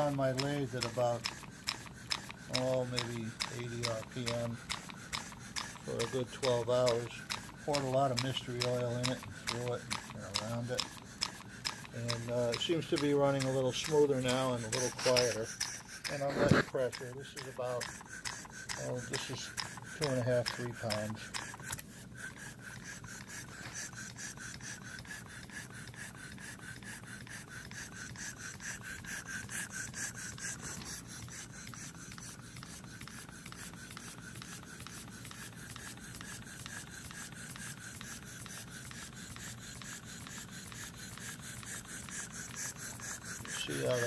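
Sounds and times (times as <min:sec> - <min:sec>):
light mechanical rubbing: 0:00.0 - 0:44.0
model steam engine puffing: 0:00.0 - 0:44.0.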